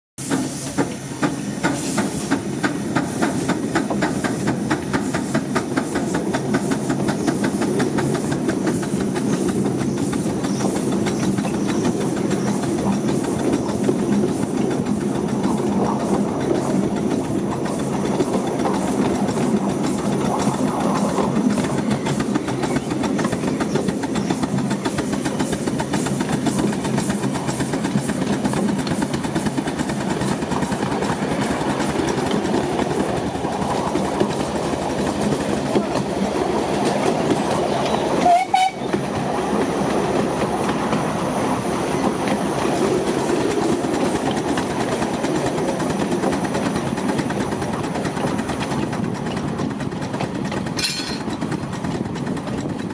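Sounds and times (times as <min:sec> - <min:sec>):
miniature train running on track: 0:00.2 - 0:52.9.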